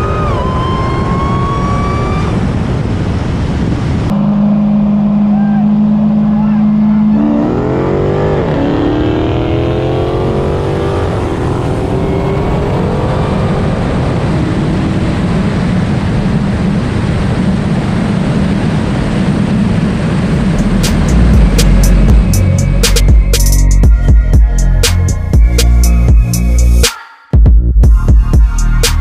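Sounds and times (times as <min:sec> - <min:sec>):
car engines accelerating: 0:00.0 - 0:26.8
wind and road noise: 0:00.0 - 0:26.8.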